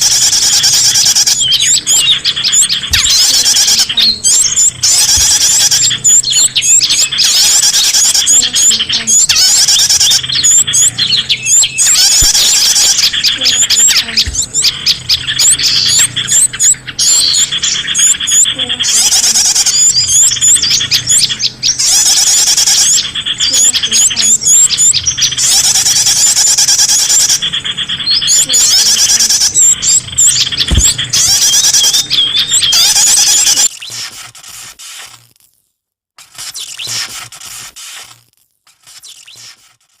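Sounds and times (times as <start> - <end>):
songbirds chirping and trilling: 0.0 - 35.2, 36.2 - 40.0.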